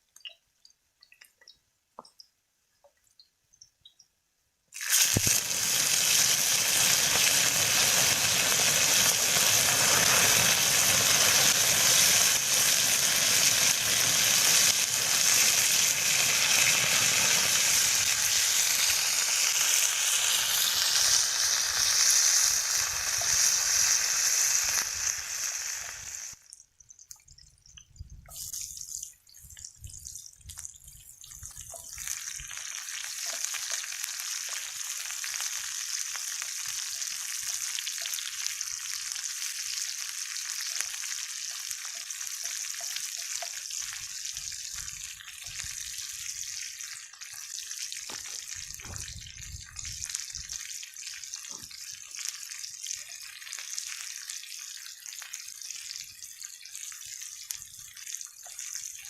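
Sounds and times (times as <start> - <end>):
food sizzling in a pan: 4.8 - 26.4, 31.4 - 59.0.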